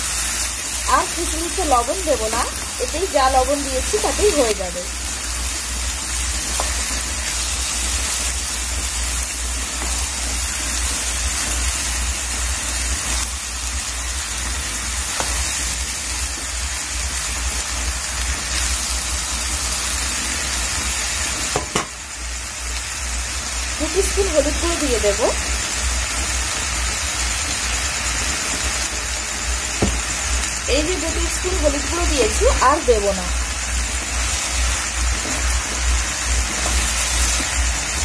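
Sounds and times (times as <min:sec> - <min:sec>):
constant low hum: 0:00.0 - 0:38.0
food sizzling in oil: 0:00.0 - 0:38.0.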